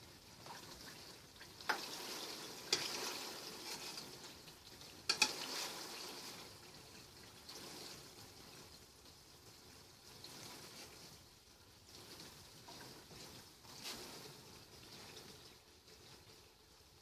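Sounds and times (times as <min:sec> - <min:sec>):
lard sizzling in hot fat: 0:00.0 - 0:17.0.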